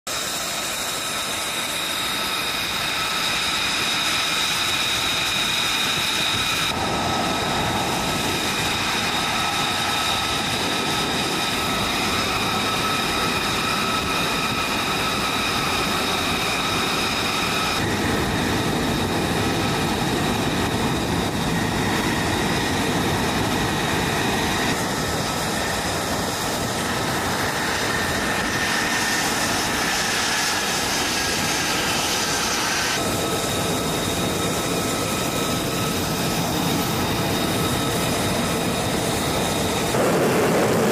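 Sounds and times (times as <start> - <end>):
jet engines whining and roaring: 0.1 - 40.9.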